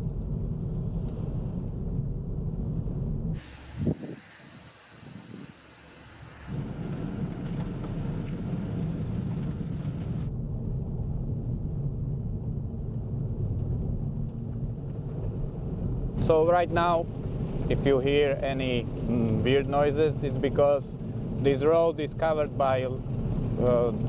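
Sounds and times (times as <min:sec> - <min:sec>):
car tyres rumbling on gravel: 0:00.0 - 0:10.4, 0:12.5 - 0:24.0.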